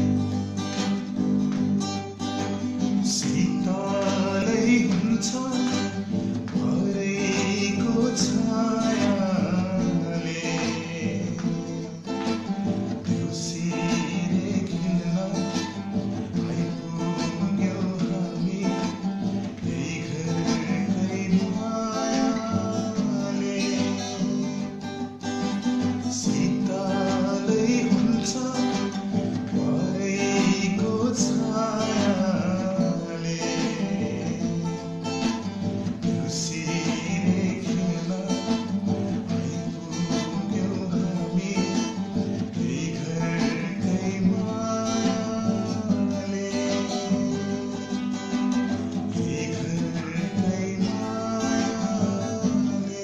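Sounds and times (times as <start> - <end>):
acoustic guitar strumming: 0.0 - 53.0
man singing: 2.1 - 53.0.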